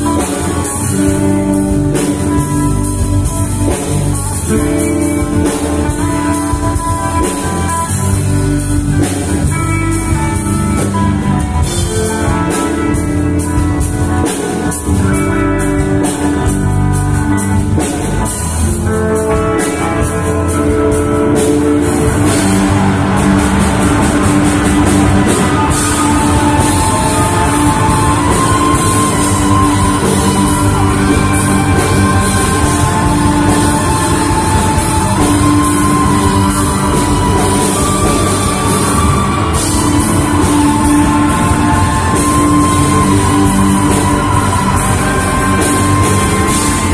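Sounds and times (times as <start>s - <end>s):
drum kit: 0.0s - 46.9s
loud electric guitars: 0.0s - 46.9s.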